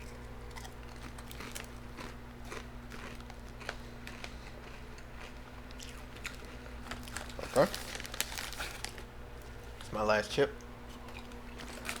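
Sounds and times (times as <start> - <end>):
person chewing crunchy chips: 0.0 - 9.1, 11.1 - 12.0.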